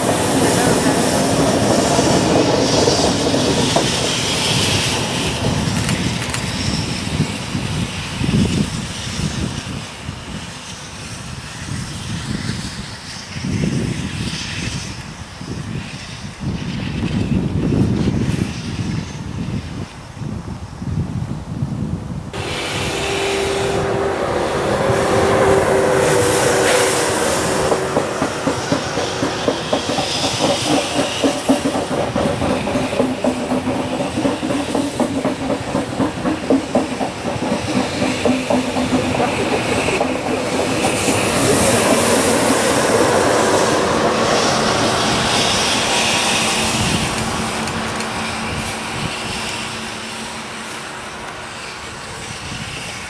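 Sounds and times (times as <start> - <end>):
train wheels clattering over rails: 0.0 - 14.9, 22.4 - 53.0
rushing air from passing train: 0.0 - 53.0
train hum: 0.0 - 53.0.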